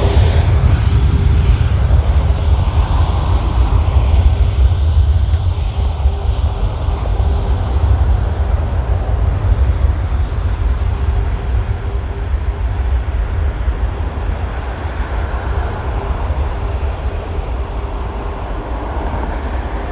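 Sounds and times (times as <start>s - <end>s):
jet engines rumbling: 0.0s - 19.9s.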